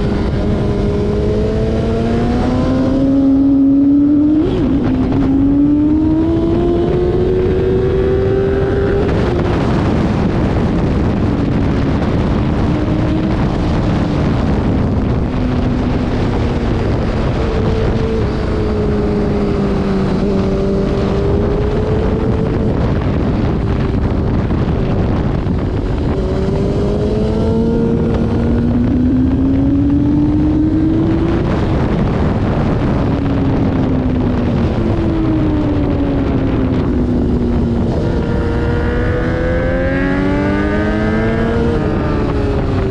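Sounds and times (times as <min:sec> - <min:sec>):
motorcycle engine running hard: 0:00.0 - 0:42.9
wind noise: 0:00.0 - 0:42.9.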